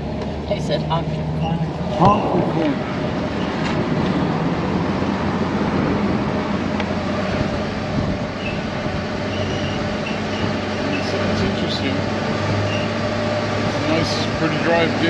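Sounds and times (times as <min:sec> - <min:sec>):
engine hum: 0:00.0 - 0:15.0
tyre and road noise: 0:00.0 - 0:15.0.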